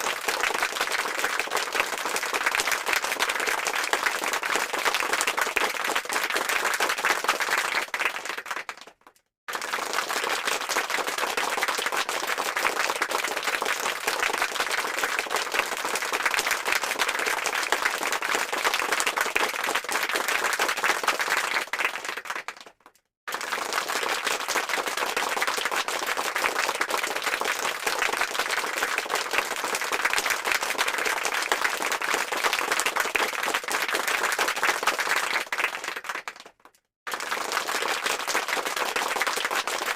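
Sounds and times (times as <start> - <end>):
crowd clapping: 0.0 - 39.9.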